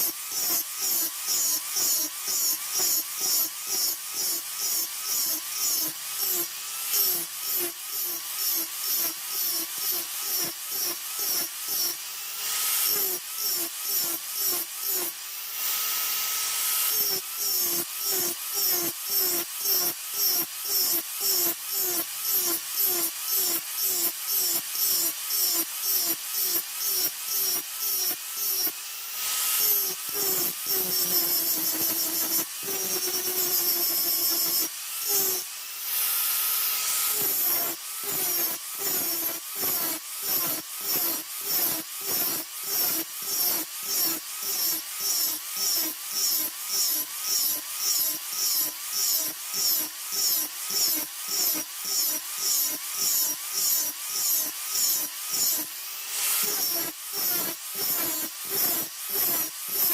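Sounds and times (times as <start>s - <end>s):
hand tool scraping blade: 0.0s - 59.9s.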